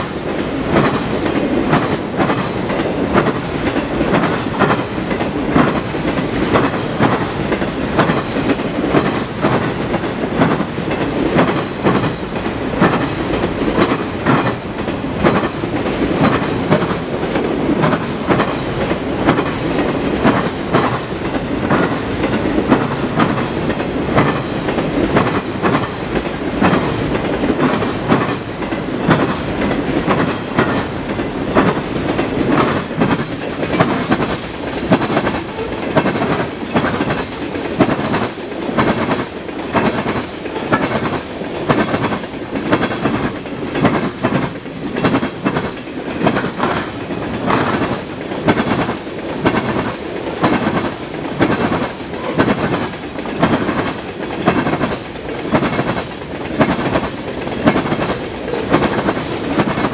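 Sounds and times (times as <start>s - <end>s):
freight train rumbling: 0.0s - 59.9s
wheels clicking over rail joints: 0.2s - 59.9s.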